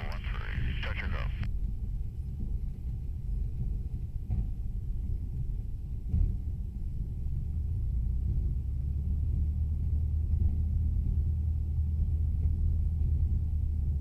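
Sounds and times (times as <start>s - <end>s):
propeller plane engine drone: 0.0s - 14.0s.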